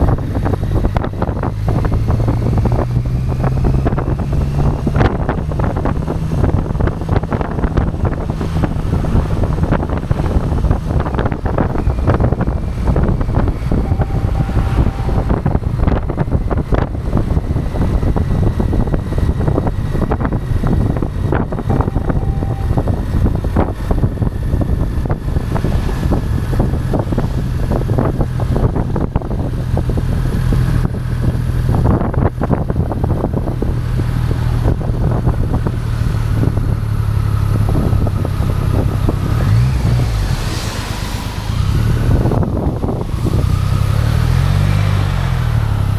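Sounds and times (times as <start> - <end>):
motorcycle engine running: 0.0 - 39.2
wind buffeting microphone: 0.0 - 44.6.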